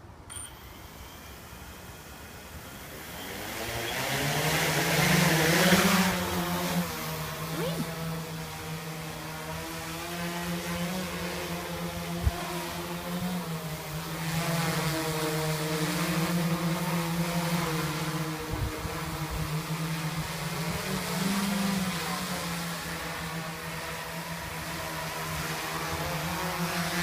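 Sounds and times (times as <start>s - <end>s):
quadcopter motors humming: 0.0s - 27.0s.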